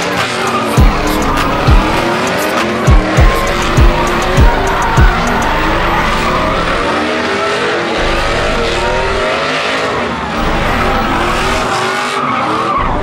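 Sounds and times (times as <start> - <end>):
truck engines revving high: 0.0 - 13.0
tyres squealing on pavement: 0.0 - 13.0.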